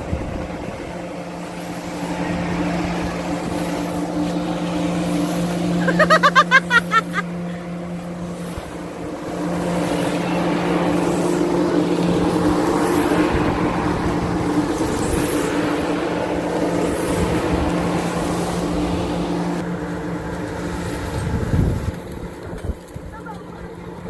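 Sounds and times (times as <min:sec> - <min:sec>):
rushing wind: 0:00.0 - 0:23.2
electric blower fan humming: 0:00.0 - 0:24.0.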